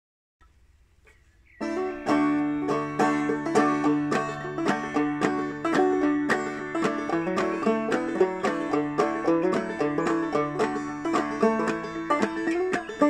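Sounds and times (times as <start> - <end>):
banjo picking and strumming: 1.6 - 13.0.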